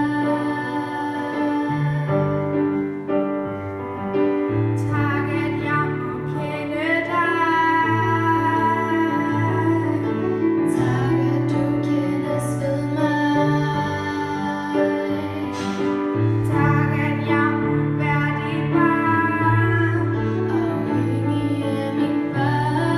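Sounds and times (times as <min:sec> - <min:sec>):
girl singing a hymn: 0:00.0 - 0:02.8, 0:04.8 - 0:22.9.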